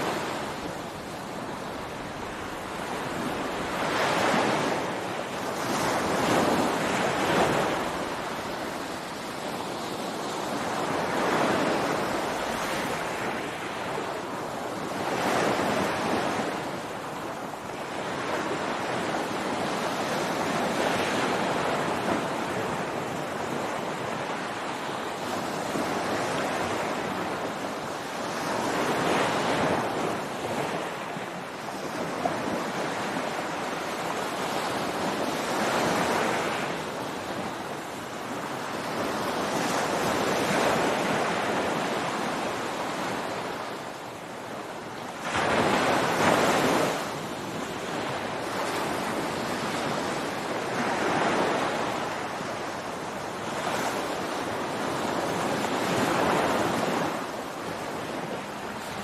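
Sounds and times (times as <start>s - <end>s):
ocean surf breaking on beach: 0.0s - 59.0s
wind noise on microphone: 0.0s - 59.0s.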